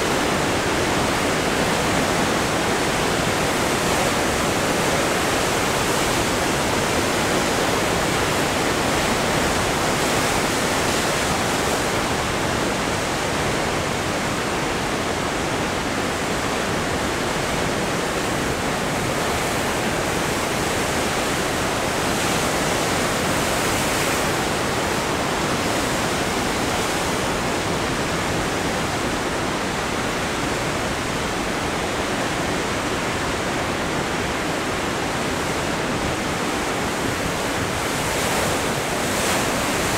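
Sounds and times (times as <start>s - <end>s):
ocean surf breaking over rocks: 0.0s - 39.9s.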